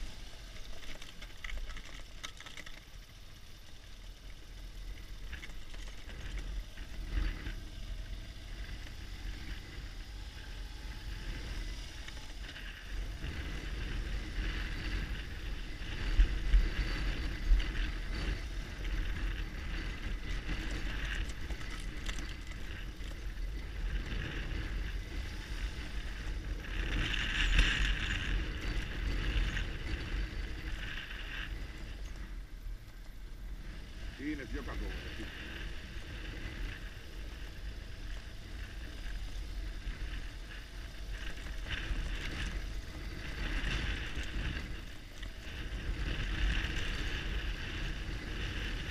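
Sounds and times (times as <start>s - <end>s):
motorcycle engine rumbling: 0.0s - 48.9s
wind noise on microphone: 5.2s - 48.9s.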